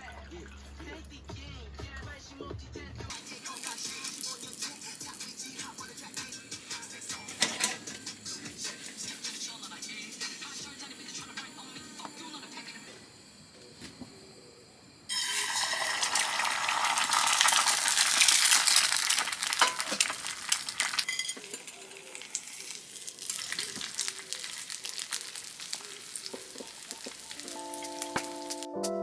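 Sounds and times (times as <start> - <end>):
food sizzling in a hot pan: 3.1 - 13.4, 15.1 - 28.7.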